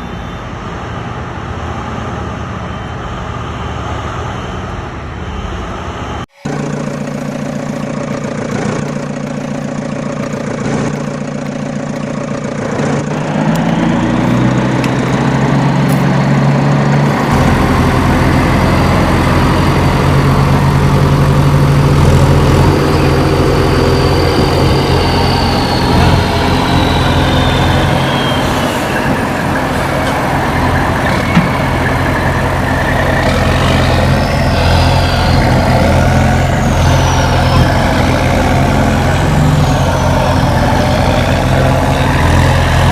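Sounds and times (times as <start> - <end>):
high whine: 0.0 - 13.9, 16.9 - 42.9
deeper engine note: 0.0 - 42.9
diesel engine running: 0.0 - 42.9.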